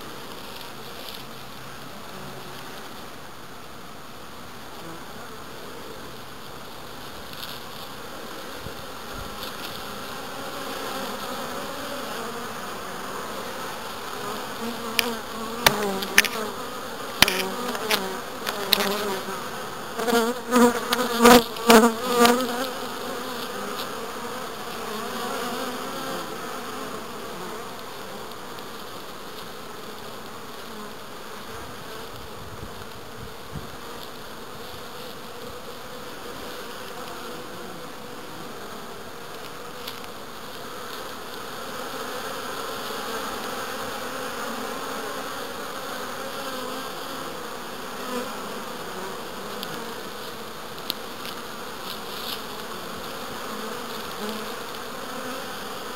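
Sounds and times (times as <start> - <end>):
bees buzzing: 4.6 - 55.9.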